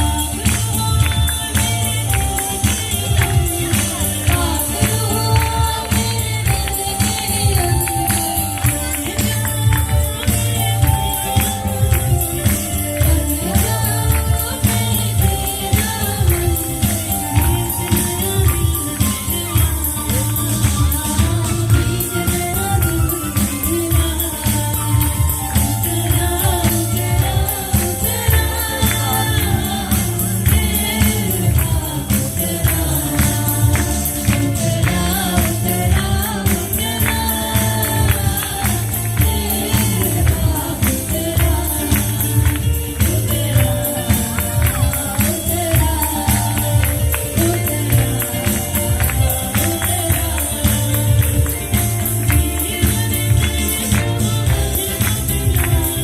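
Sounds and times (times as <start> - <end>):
band with steady beat: 0.0 - 56.0
choir singing gospel: 0.0 - 56.0
shaken tambourine: 0.0 - 56.0.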